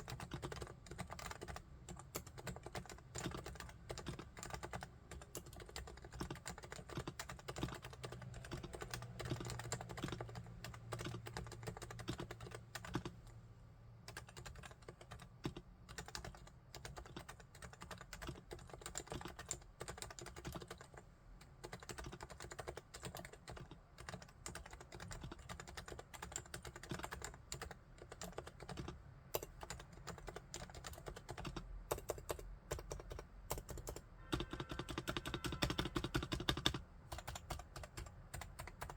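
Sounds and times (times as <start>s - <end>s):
fast keyboard typing: 0.0s - 13.2s, 14.1s - 38.9s.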